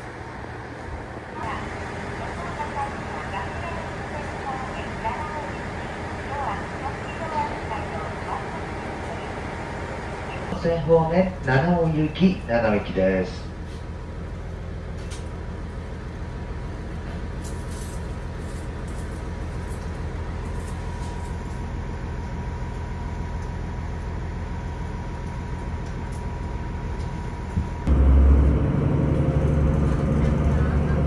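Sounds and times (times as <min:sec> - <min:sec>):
diesel engine idling and revving: 0:01.4 - 0:31.0.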